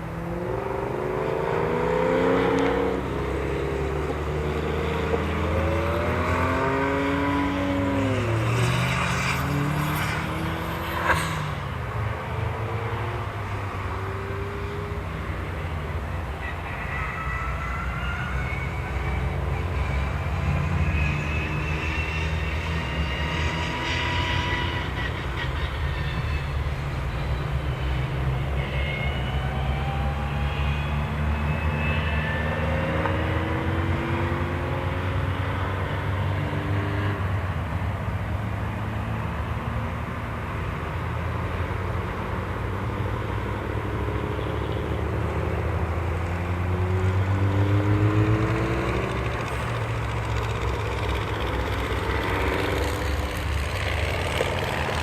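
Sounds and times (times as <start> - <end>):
car engines driving by: 0.0 - 55.0.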